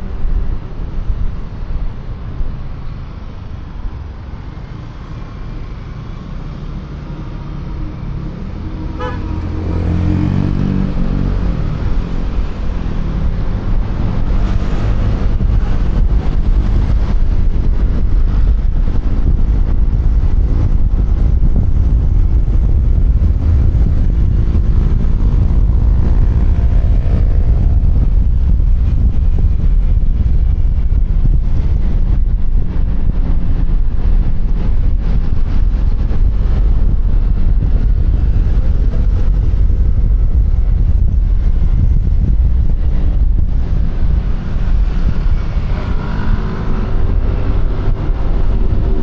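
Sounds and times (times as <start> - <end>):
traffic: 0.0 - 49.0
wind rumble on microphone: 0.0 - 49.0.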